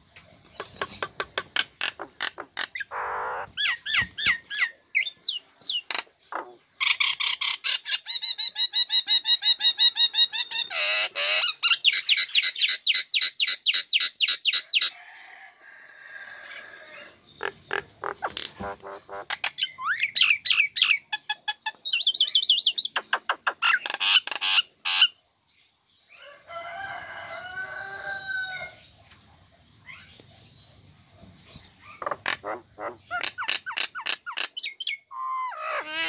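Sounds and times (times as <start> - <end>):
myna bird singing: 0.0 - 15.0, 16.5 - 26.3, 28.8 - 36.0.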